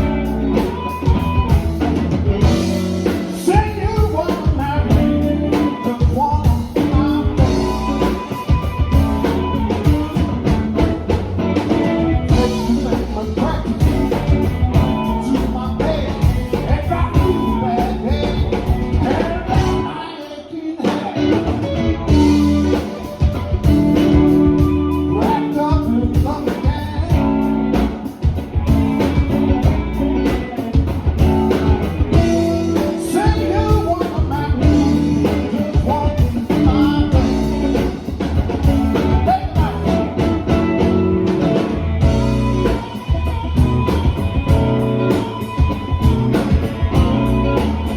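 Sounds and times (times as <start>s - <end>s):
live blues band playing: 0.0s - 47.9s.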